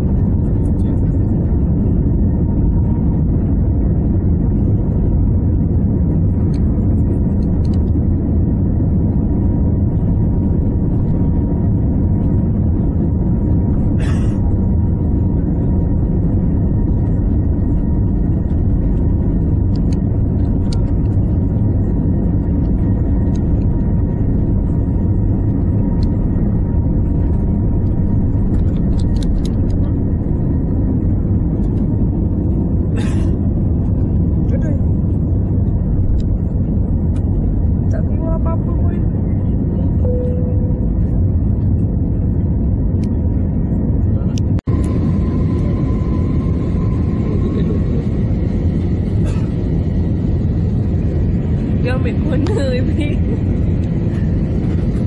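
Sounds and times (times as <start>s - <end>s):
faint steady whine: 0.0s - 55.0s
low rumble of jet cabin: 0.0s - 55.0s.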